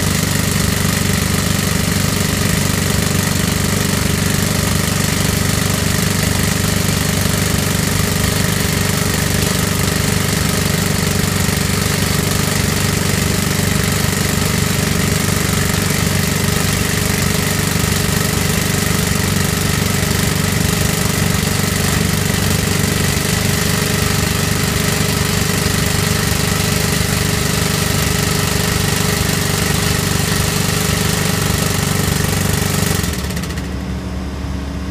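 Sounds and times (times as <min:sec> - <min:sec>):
hydraulic rock drill hammering: 0:00.0 - 0:34.0
excavator engine running: 0:00.0 - 0:34.9.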